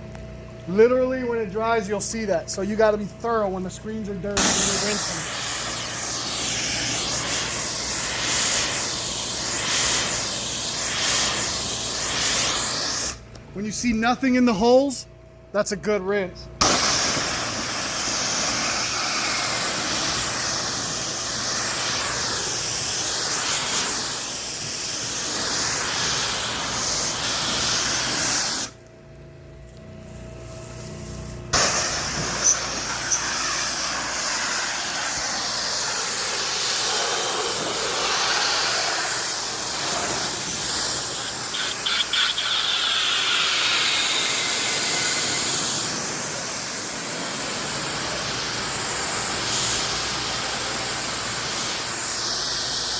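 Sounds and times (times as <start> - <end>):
pressure washer spray hissing: 1.4 - 13.3, 16.6 - 28.8, 29.9 - 52.9.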